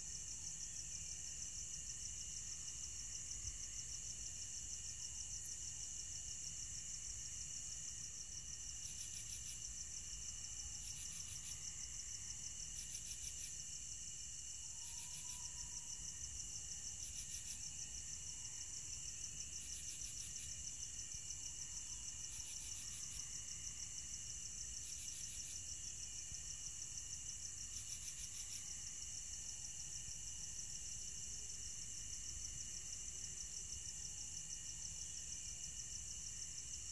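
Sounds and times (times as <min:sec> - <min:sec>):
crickets chirping: 0:00.0 - 0:36.9
faint steady tone: 0:00.0 - 0:36.9.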